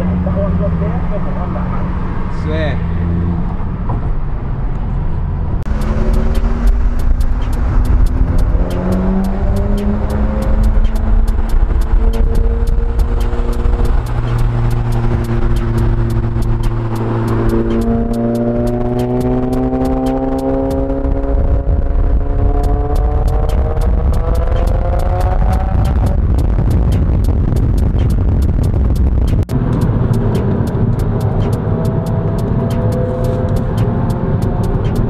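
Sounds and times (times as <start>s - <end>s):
car engines accelerating: 0.0s - 35.0s
fast steady ticking: 5.7s - 35.0s.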